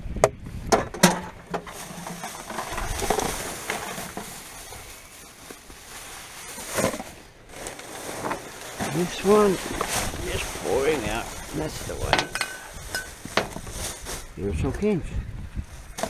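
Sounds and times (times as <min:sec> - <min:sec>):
rubbish bags rustling: 0:01.1 - 0:14.4.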